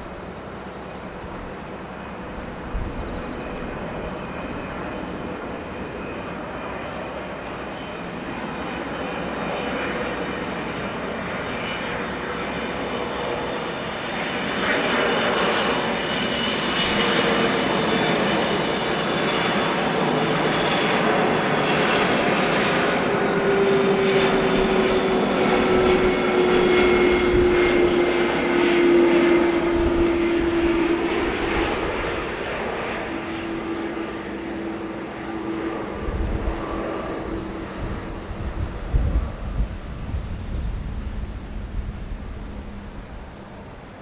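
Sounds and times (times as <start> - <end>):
falling engine whine: 0.0 - 44.0
jet engines roaring: 0.0 - 44.0.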